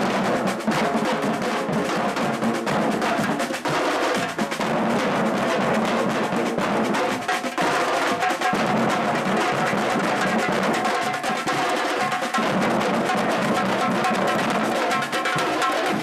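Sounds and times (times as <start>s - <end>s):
hand drums ensemble drumming: 0.0s - 16.0s.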